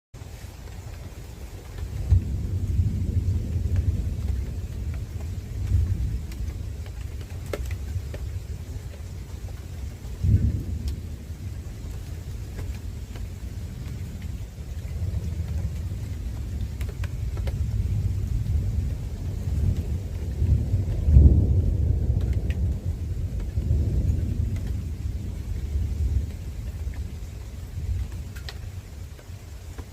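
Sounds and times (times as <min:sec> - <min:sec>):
rain hiss: 0:00.2 - 0:29.9
thunder rumbling: 0:00.8 - 0:29.9.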